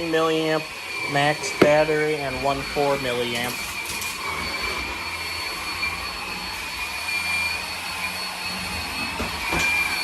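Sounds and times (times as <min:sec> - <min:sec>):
stick vacuum motor whining: 0:00.0 - 0:10.0.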